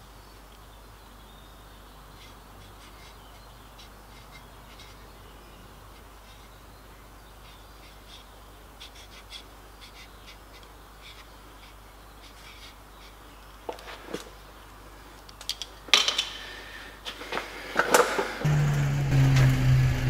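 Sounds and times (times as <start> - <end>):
faint bird calls: 0.0 - 18.5.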